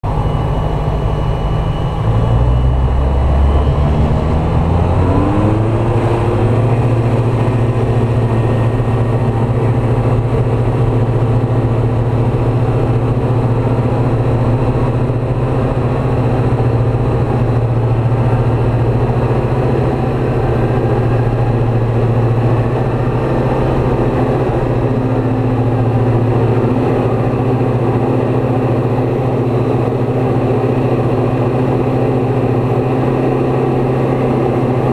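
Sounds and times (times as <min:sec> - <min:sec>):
light aircraft engine and propeller: 0:00.0 - 0:34.9.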